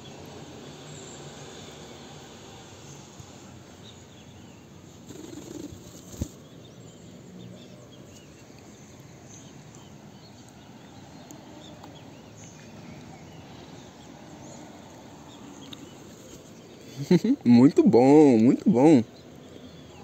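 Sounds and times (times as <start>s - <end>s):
birds chirping: 0.0s - 20.0s
low steady background noise: 0.0s - 20.0s.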